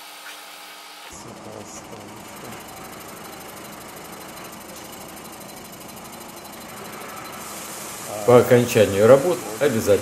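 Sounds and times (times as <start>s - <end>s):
line-boring machine mechanical rattle: 1.1s - 10.0s.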